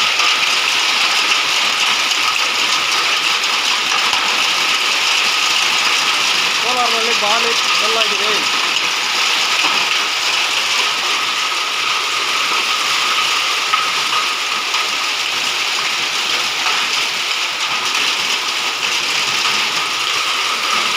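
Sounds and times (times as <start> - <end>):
hail and rain pelting: 0.0 - 20.9.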